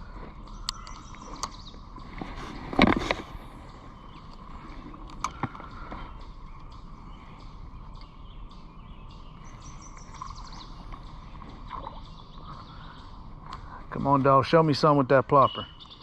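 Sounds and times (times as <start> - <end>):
high bird chirp: 0.0 - 2.6, 3.2 - 16.0
creek-side outdoor background: 0.0 - 16.0.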